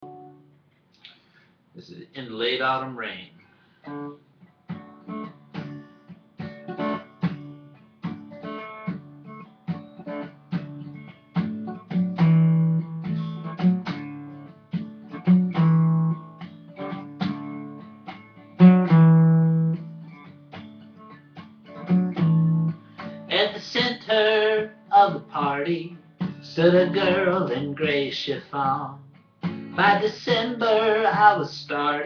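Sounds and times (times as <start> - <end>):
acoustic guitar picking: 0.0 - 0.5, 3.4 - 32.0.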